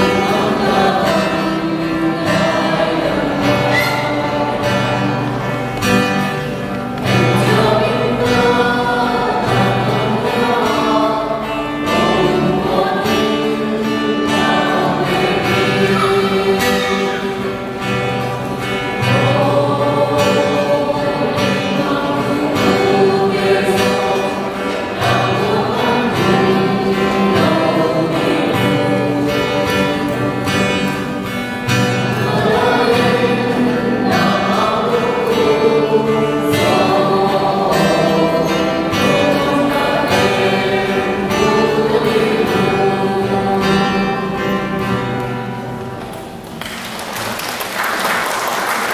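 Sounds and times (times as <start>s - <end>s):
choir singing a hymn: 0.0s - 46.1s
guitar playing: 0.0s - 46.8s.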